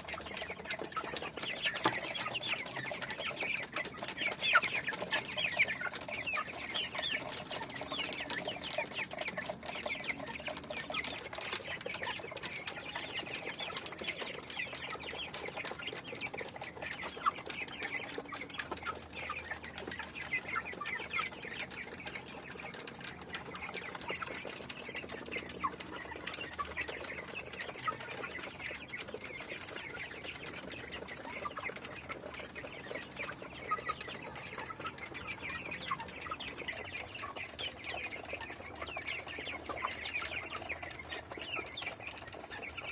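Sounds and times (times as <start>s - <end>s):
chickens clucking: 0.0s - 42.9s.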